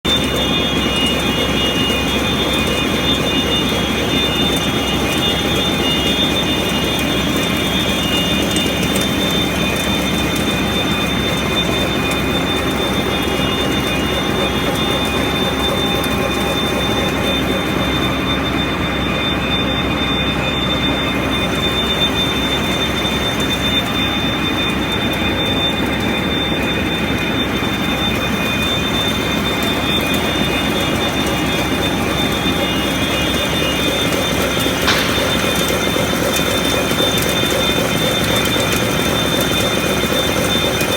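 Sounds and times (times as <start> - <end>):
boring mill machine whining: 0.1 - 40.9.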